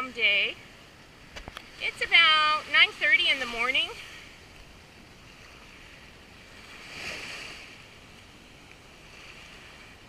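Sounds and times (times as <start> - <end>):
gentle surf waves washing: 0.0 - 10.0.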